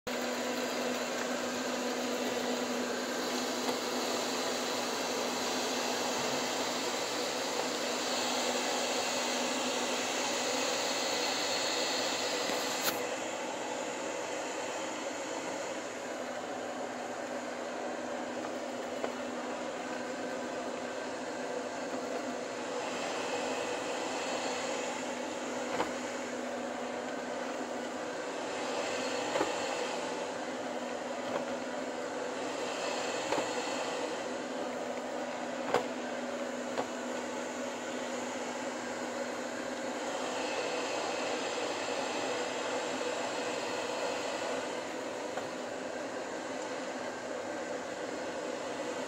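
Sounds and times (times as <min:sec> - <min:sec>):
robot vacuum motor hum: 0:00.1 - 0:49.0.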